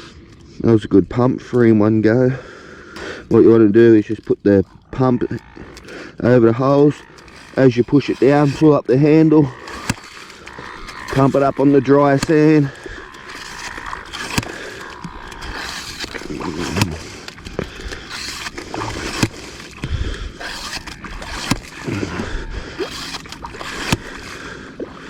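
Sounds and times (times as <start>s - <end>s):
pump splashing in wet sand: 3.0s - 25.0s.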